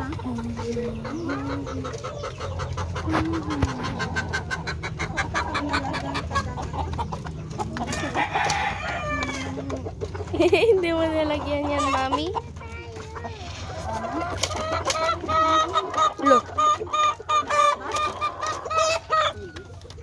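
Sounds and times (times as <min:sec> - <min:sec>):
roosters clucking: 0:00.0 - 0:20.0.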